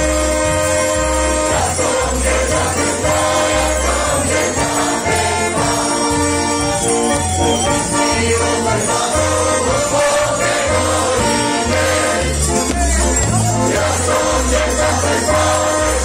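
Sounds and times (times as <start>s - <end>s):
folk dance music: 0.0s - 16.0s
voices singing along: 0.0s - 16.0s.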